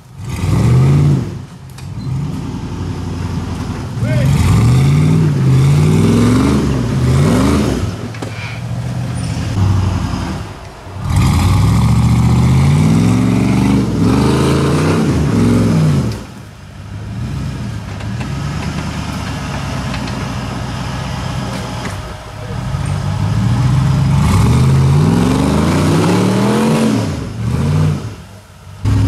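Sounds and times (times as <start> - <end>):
buggy engine revving: 0.0 - 29.0.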